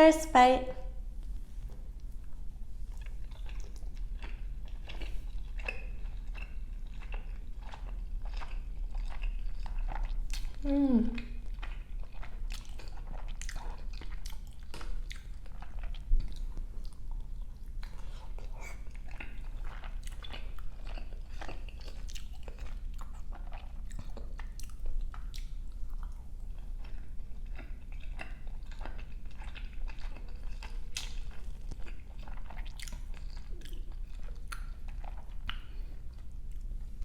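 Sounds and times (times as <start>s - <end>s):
mouth chewing clicks and smacks: 2.9s - 10.6s, 11.2s - 37.0s.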